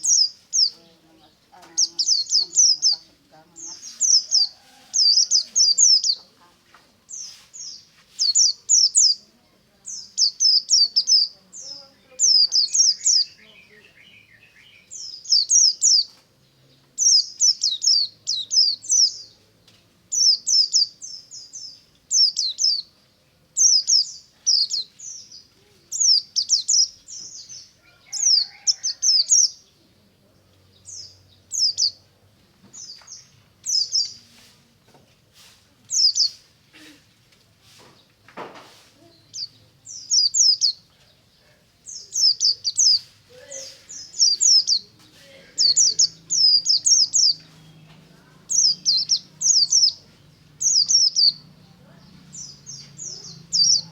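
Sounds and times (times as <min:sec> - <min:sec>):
bird chirping song: 0:00.0 - 0:06.5, 0:07.1 - 0:36.9, 0:39.0 - 0:53.9.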